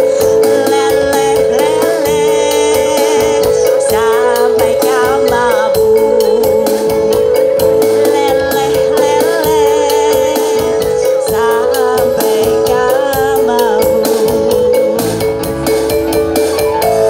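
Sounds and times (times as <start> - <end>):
held keyboard note: 0.0 - 17.0
person singing: 0.0 - 17.0
steady percussion beat: 0.1 - 17.0.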